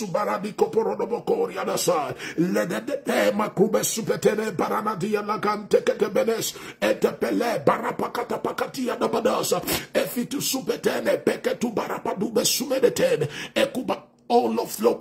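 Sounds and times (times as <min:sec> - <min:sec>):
man praying aloud: 0:00.0 - 0:15.0.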